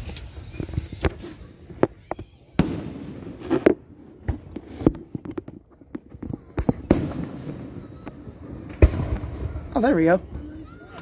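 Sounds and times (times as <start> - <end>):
fireworks bangs and cracks: 0.4 - 10.5.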